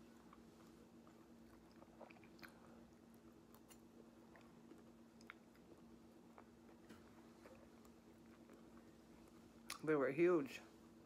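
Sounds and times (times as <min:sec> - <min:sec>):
faint chewing: 0:00.0 - 0:09.9
low steady hum: 0:00.0 - 0:11.0.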